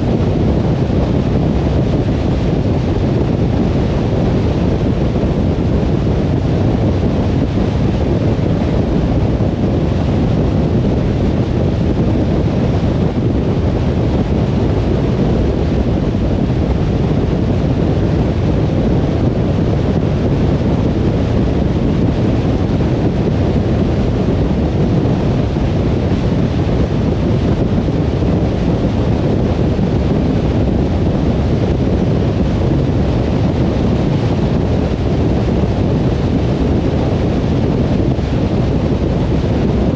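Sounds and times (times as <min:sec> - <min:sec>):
car tyre and wind noise: 0:00.0 - 0:39.9.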